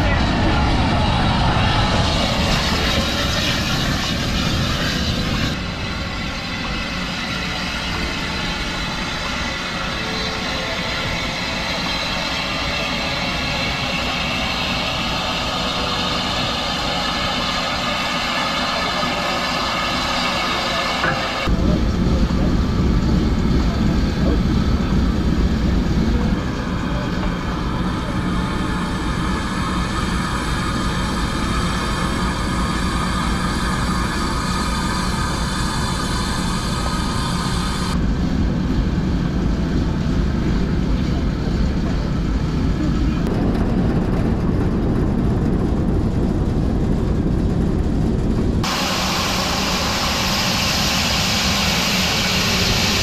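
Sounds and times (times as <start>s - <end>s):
steam locomotive hissing: 0.0s - 43.2s, 48.6s - 53.0s.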